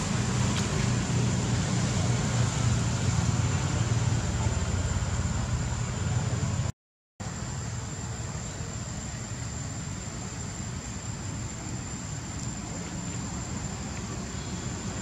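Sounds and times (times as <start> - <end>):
even hiss: 0.0 - 15.0
steady low hum: 0.0 - 15.0.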